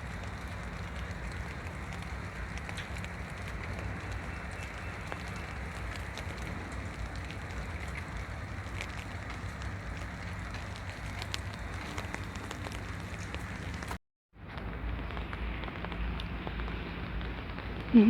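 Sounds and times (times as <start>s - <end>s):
constant low rumble: 0.0s - 18.0s
steady rain: 0.0s - 18.0s
ticks of raindrops: 0.0s - 18.0s.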